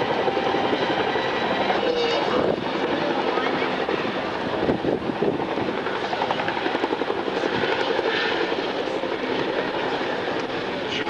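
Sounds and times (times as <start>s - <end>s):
aircraft engine throbbing: 0.0s - 11.0s.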